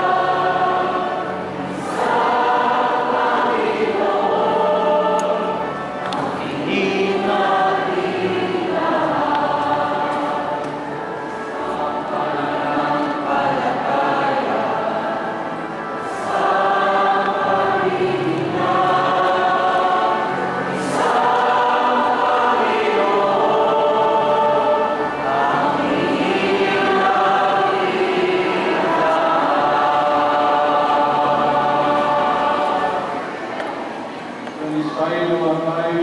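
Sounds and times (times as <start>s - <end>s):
choir singing: 0.0s - 34.2s.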